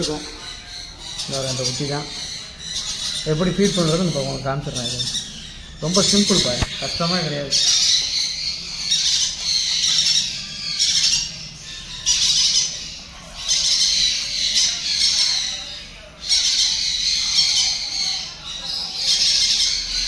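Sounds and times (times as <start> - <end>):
parrot chicks begging calls: 0.0 - 20.0.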